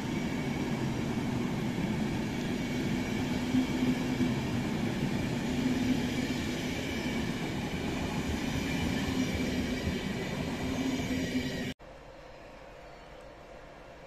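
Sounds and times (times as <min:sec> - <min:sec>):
train wheels rumbling on rail: 0:00.0 - 0:11.8.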